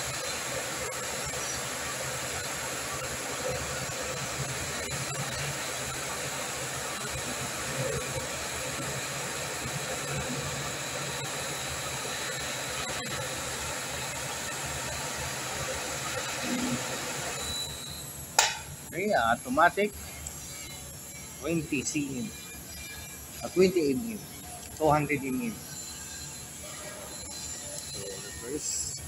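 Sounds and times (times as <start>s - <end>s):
electric hoist humming with high whine: 0.0s - 29.0s.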